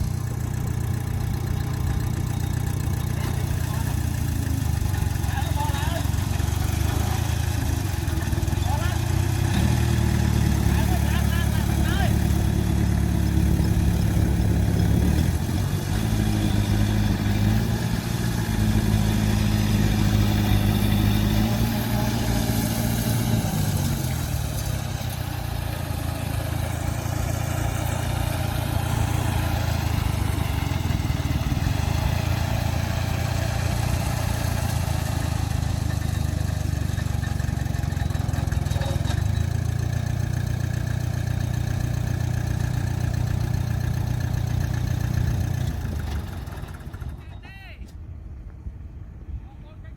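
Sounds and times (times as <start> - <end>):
heavy diesel engine running: 0.0 - 47.4.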